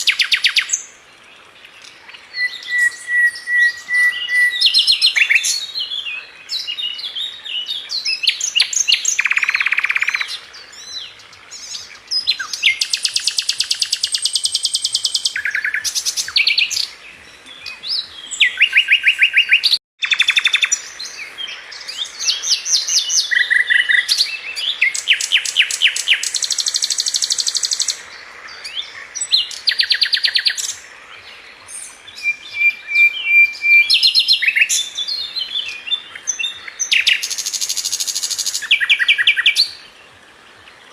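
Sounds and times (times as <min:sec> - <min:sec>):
flycatcher singing trills and whistles: 0:02.1 - 0:28.0, 0:31.7 - 0:39.8.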